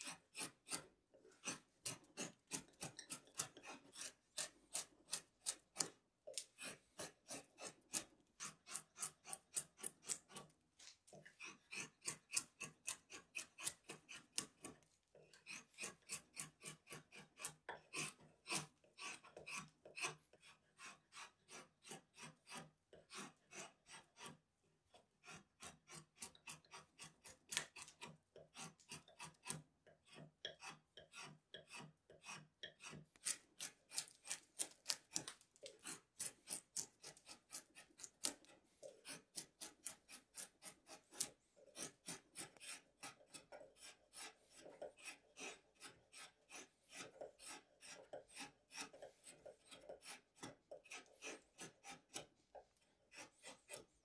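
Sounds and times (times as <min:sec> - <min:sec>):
drawknife shaving wood: 0:00.0 - 0:54.0.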